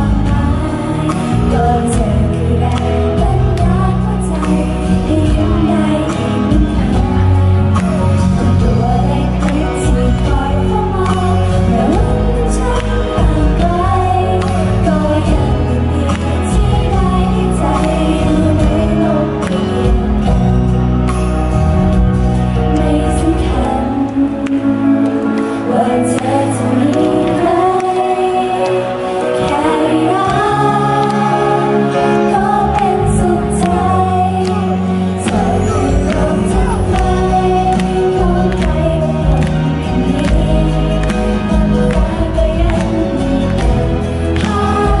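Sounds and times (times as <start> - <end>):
girls singing pop song: 0.0 - 20.3, 22.6 - 45.0
backing music on speakers: 0.0 - 45.0.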